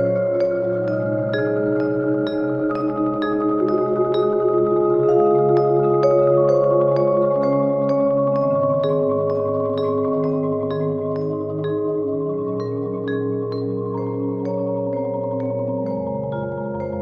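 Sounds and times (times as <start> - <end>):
marimbas playing chords: 0.0 - 17.0.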